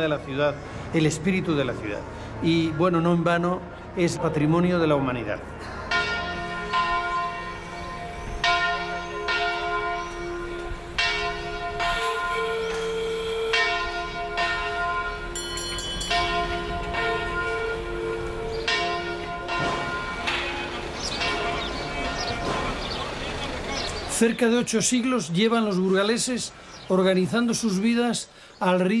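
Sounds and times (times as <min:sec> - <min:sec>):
cathedral bells ringing: 0:01.0 - 0:28.2.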